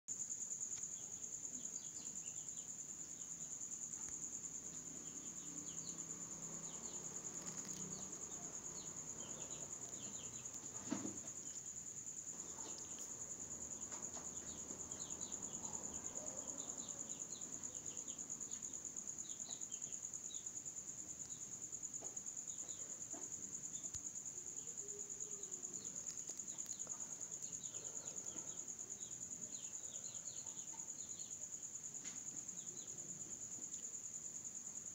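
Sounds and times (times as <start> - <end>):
crickets trilling: 0.1 - 34.9.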